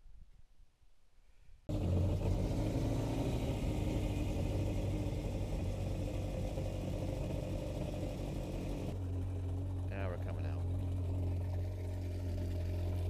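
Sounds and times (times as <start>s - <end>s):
watercraft engine idling: 2.0s - 13.0s.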